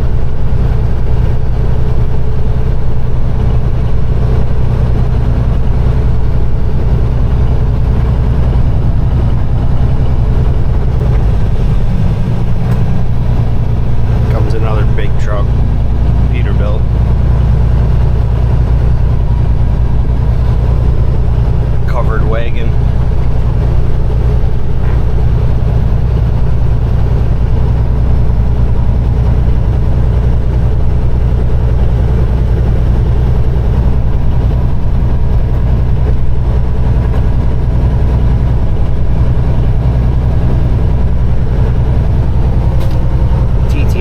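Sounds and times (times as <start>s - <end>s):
truck diesel engine droning: 0.0s - 44.0s.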